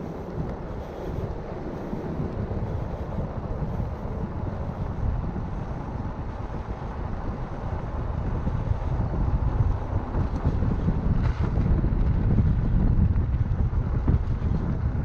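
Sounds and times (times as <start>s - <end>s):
tyres rumbling on paved road: 0.0s - 15.0s
wind buffeting microphone: 0.0s - 15.0s.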